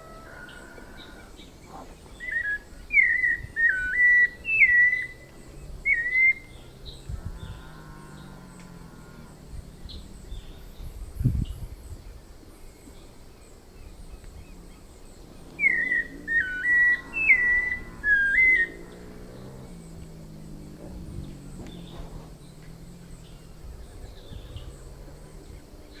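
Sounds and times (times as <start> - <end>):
thrush singing whistled notes: 0.0 - 11.5, 13.7 - 26.0.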